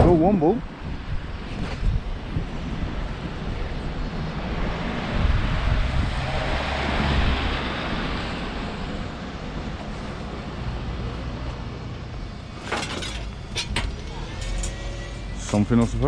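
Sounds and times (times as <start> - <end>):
vehicle road rumble: 0.0 - 16.0.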